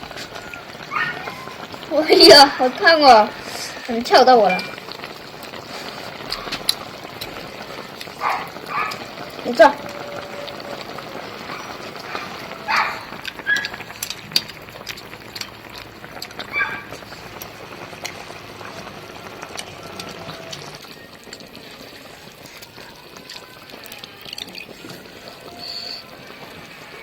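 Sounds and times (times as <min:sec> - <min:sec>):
broth simmering: 0:00.0 - 0:27.0
eating sounds: 0:00.0 - 0:27.0.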